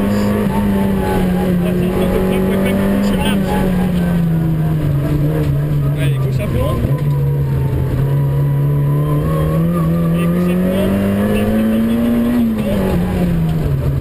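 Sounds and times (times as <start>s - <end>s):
car engine revving under load: 0.0s - 14.0s.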